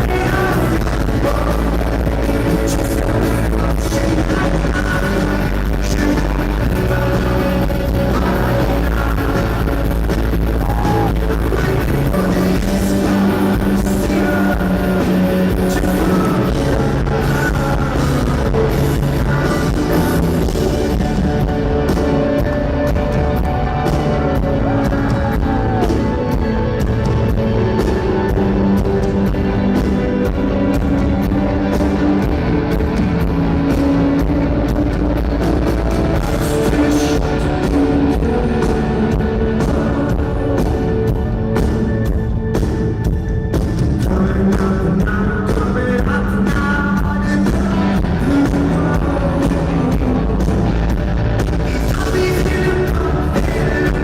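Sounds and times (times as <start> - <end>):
person singing lead vocal: 0.0 - 42.1, 43.8 - 54.0
guitars: 0.0 - 54.0.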